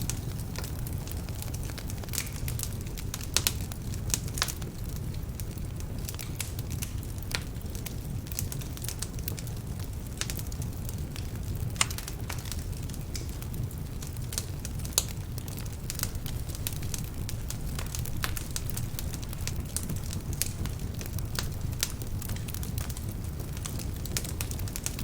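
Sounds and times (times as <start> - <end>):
fire rumbling: 0.0 - 25.0
logs crackling and popping: 0.0 - 25.0.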